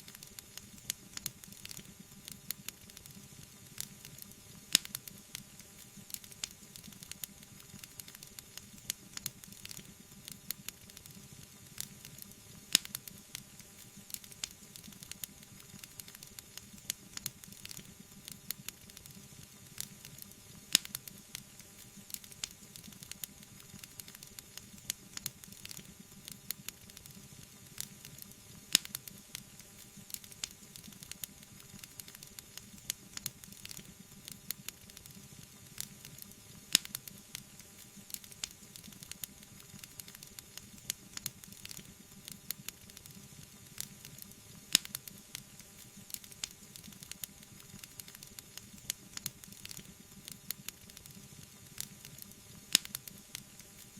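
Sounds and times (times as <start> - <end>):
soft steady hiss: 0.0 - 53.9
wood fire crackling and popping: 0.0 - 53.9.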